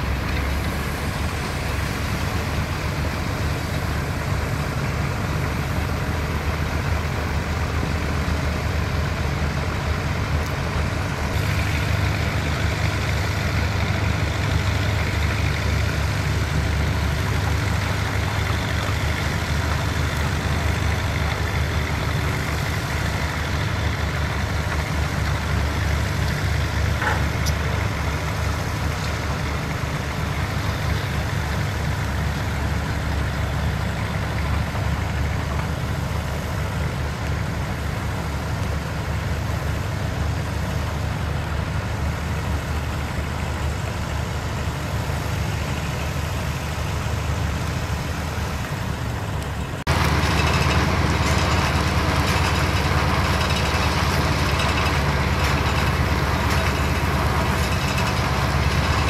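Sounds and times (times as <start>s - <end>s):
diesel machine engines rumbling: 0.0s - 59.0s.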